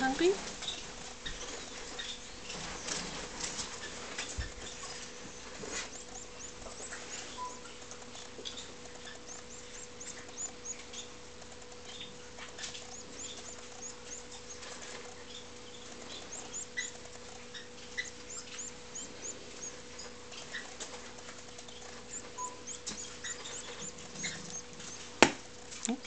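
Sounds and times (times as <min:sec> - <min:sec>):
canary chick begging peeps: 0:00.0 - 0:26.0.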